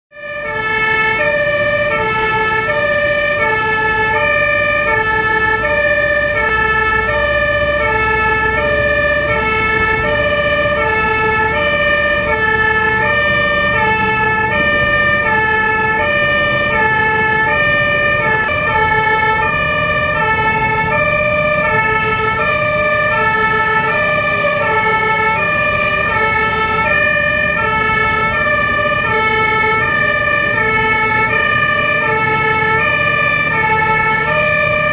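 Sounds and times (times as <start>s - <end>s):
road noise: 0.1s - 34.9s
truck engine: 0.1s - 34.9s
two-tone siren: 0.1s - 34.9s.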